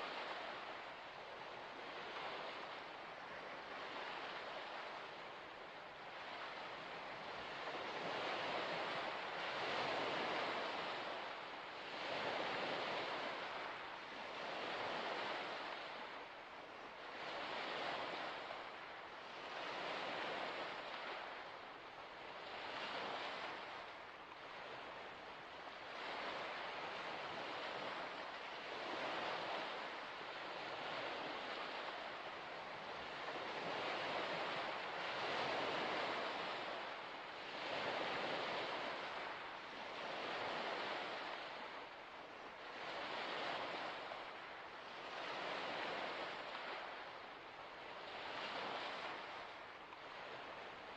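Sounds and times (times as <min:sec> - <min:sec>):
waves washing onto shore: 0:00.0 - 0:50.9.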